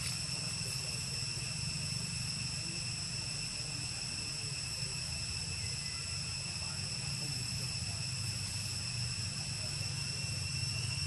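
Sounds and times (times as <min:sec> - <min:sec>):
insects chorus: 0:00.0 - 0:11.0
low constant rumble: 0:00.0 - 0:11.0.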